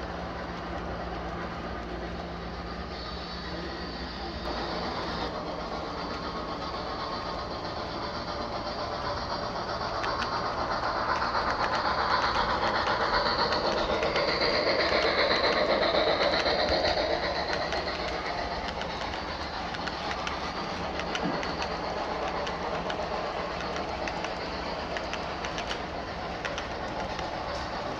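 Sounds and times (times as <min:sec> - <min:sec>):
light clicks of train wheels: 0:00.0 - 0:27.9
model train running on track: 0:00.0 - 0:27.9.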